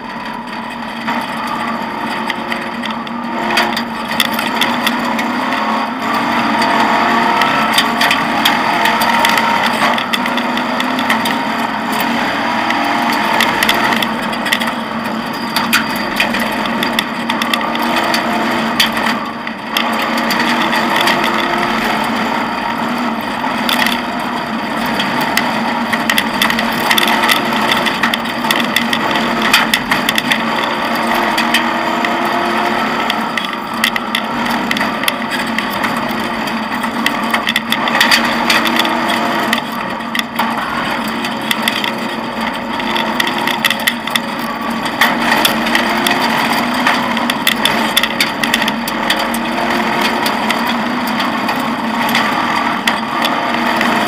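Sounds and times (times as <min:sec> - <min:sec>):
rally car engine running hard: 0:00.0 - 0:54.0.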